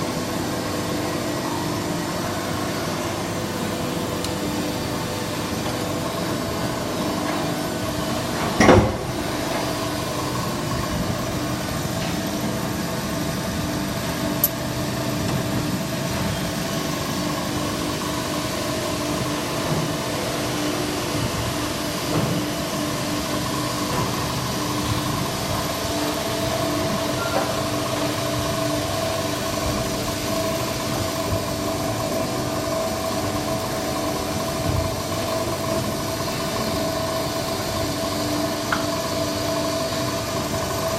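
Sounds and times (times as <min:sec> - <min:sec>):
machine mechanical hum: 0:00.0 - 0:40.9.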